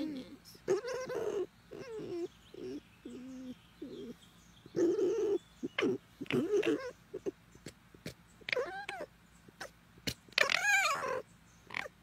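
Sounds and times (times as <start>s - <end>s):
fox whining and cooing: 0.0s - 12.0s.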